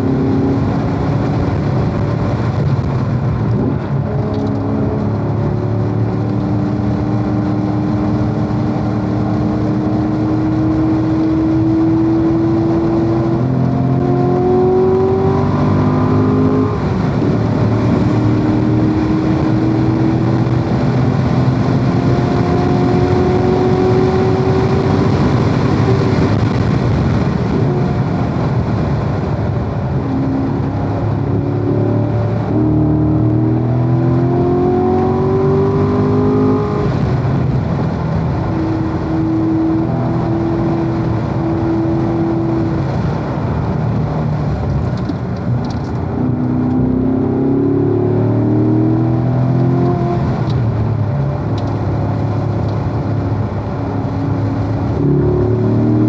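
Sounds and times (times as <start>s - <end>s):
car engine revving and upshifting: 0.0s - 56.0s
wind and tyre noise: 0.0s - 56.0s.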